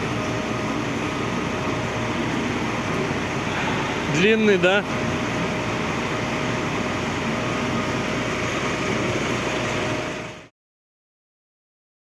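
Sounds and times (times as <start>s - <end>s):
truck running: 0.0s - 10.5s.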